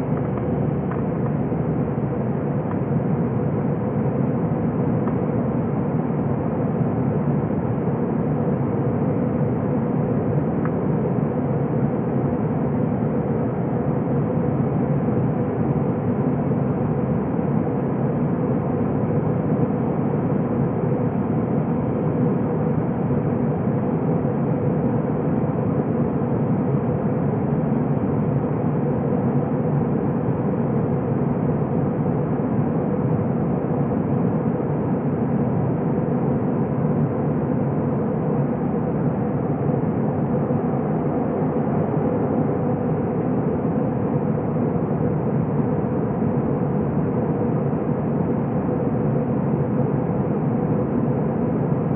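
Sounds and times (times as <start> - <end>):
airplane cabin drone: 0.0 - 51.9
faint steady hum: 0.0 - 51.9.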